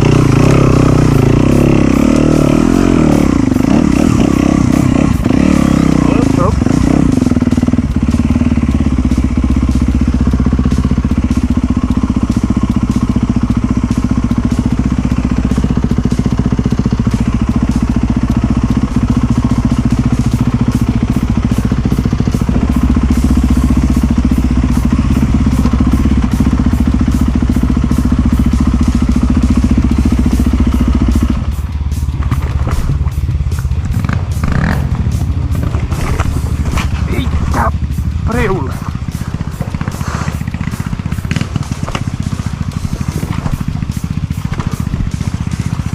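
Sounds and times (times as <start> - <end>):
dirt bike engine running: 0.0 - 45.9.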